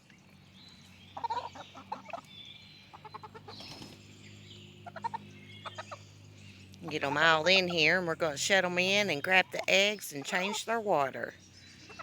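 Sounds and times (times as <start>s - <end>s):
chickens clucking: 1.1s - 12.0s.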